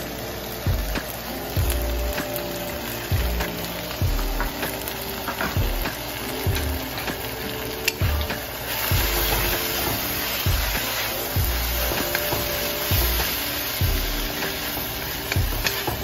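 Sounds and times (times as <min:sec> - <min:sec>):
background music with steady beat: 0:00.0 - 0:16.0
vegetables sizzling in a wok: 0:00.0 - 0:16.0.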